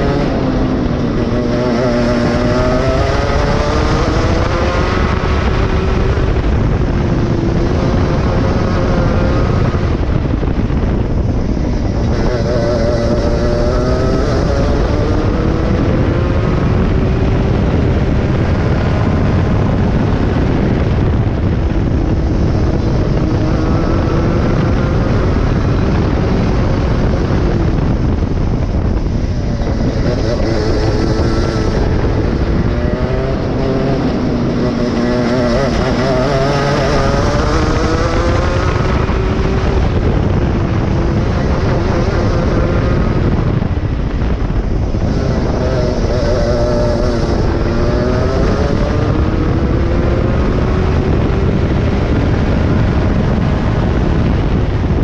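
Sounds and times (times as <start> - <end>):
go-kart engine revving: 0.0 - 55.0
low rushing noise: 0.0 - 55.0.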